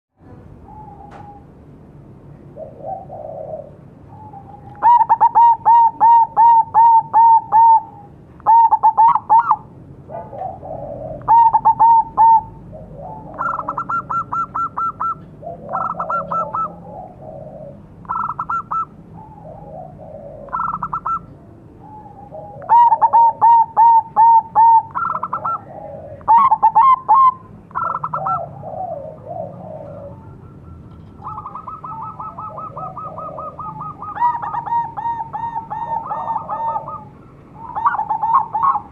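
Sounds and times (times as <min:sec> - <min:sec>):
doves cooing: 0:00.6 - 0:01.6, 0:02.4 - 0:38.9.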